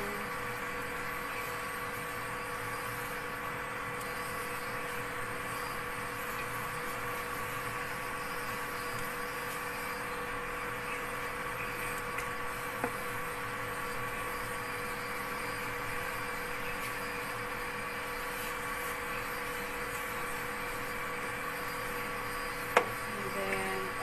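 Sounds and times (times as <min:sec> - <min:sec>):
broth boiling: 0:00.0 - 0:24.0
mechanical hum with whine: 0:00.0 - 0:24.0.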